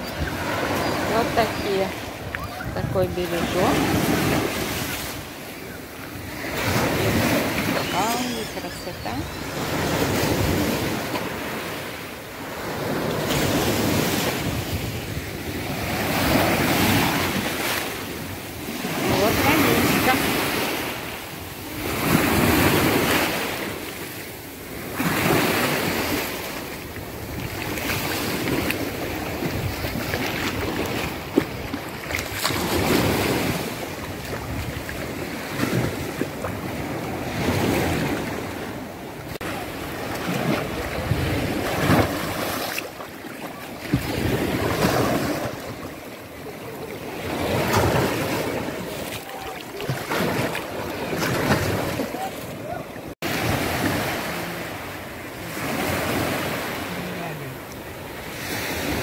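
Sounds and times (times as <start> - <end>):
surf washing over stony shore: 0.0 - 59.0.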